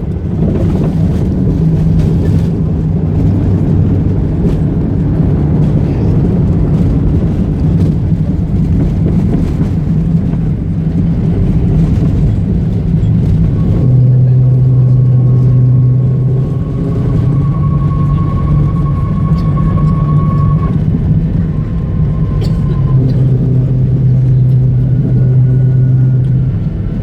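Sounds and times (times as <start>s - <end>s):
aircraft cabin engine rumble: 0.0s - 27.0s
low hum: 0.0s - 27.0s.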